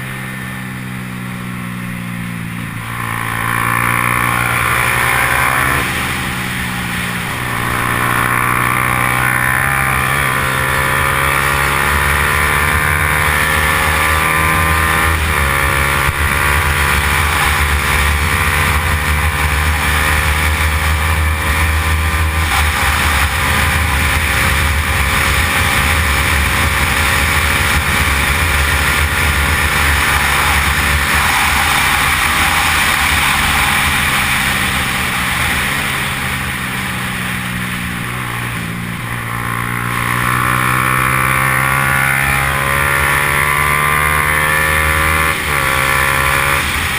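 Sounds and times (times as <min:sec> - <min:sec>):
motorcycle engine revving high: 0:00.0 - 0:46.9.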